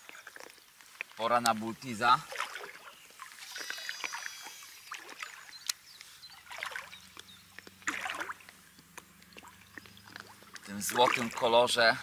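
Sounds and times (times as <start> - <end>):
small clicks and knocks of tackle: 0.0 - 1.7, 3.4 - 11.6
water splashing and lapping: 0.0 - 12.0.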